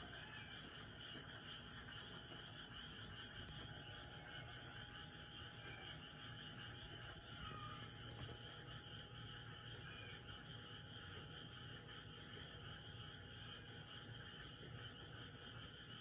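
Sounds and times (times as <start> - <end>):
chorus of frogs calling: 0.0 - 16.0.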